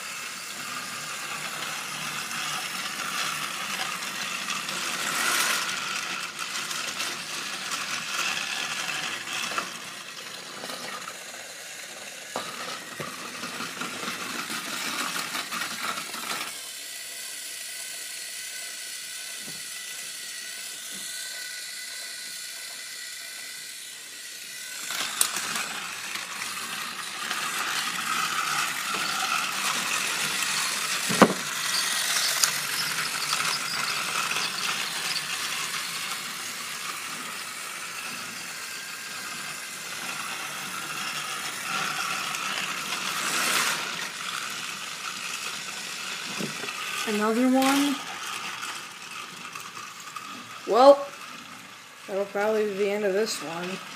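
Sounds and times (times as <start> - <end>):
toy train motor whirring: 0.0 - 53.9.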